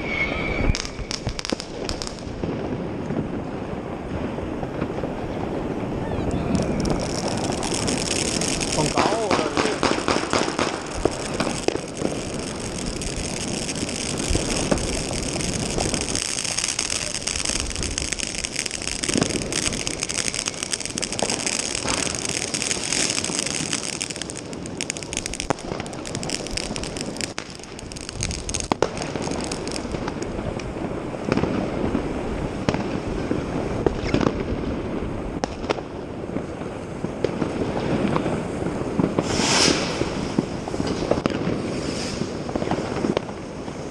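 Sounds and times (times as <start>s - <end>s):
firecrackers crackling: 0.0s - 43.9s
rockets exploding: 0.0s - 43.9s.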